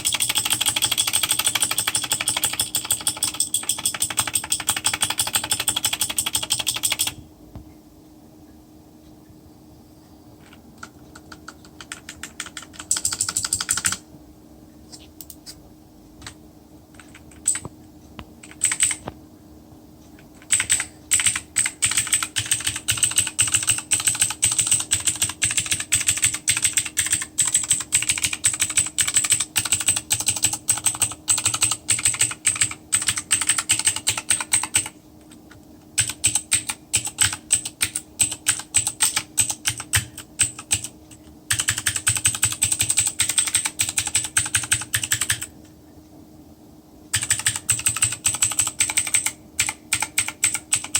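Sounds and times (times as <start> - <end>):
mechanical keyboard typing: 0.0 - 7.2, 10.4 - 14.0, 16.2 - 17.7, 18.4 - 19.1, 20.2 - 45.6, 47.1 - 50.9.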